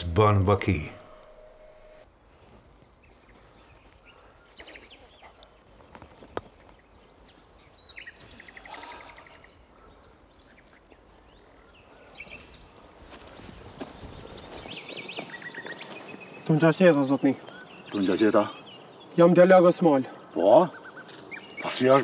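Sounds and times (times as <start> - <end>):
faint outdoor hiss: 0.0 - 22.0
songbirds chirping: 0.0 - 22.0.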